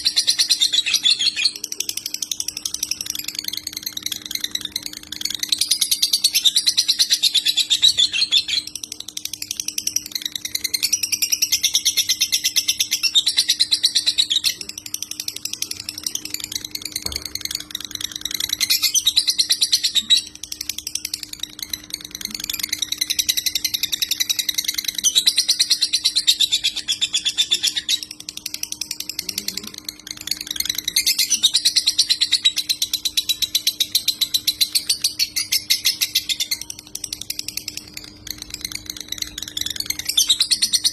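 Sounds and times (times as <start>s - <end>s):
lovebird chattering song: 0.0s - 40.9s.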